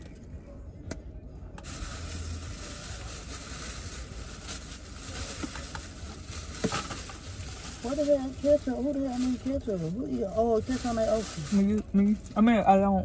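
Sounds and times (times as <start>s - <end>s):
plastic bag rustling: 1.6s - 12.3s.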